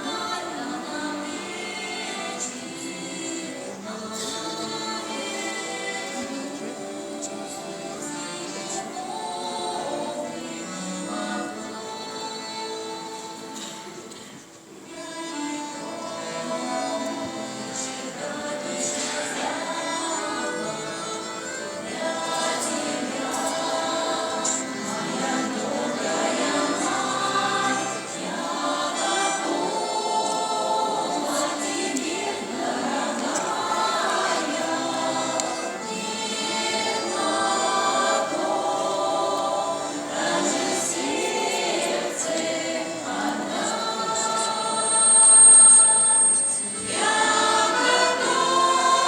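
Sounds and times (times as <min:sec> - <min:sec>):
folk choir singing: 0:00.0 - 0:49.0.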